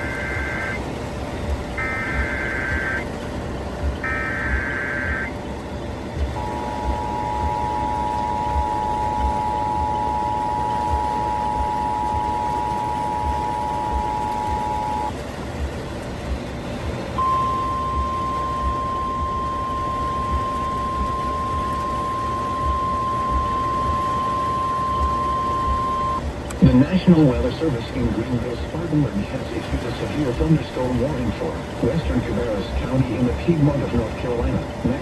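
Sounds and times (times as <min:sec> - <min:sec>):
two-tone alert signal: 0:00.0 - 0:00.8, 0:01.8 - 0:03.1, 0:04.0 - 0:05.3, 0:06.4 - 0:15.1, 0:17.2 - 0:35.0
radio hiss: 0:00.0 - 0:15.2, 0:16.9 - 0:35.0
steady alarm tone: 0:00.0 - 0:15.7, 0:17.2 - 0:35.0.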